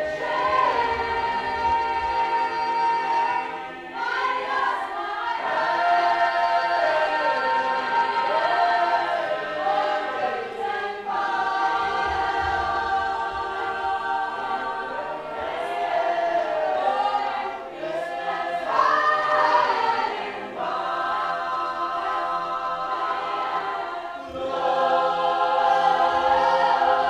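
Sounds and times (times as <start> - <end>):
voices singing in harmony: 0.0 - 27.0.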